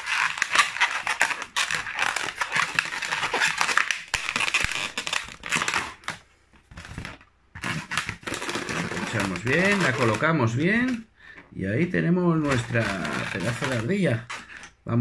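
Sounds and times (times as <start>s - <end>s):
balloons squeaking while twisted: 0.0s - 11.1s, 12.3s - 14.8s.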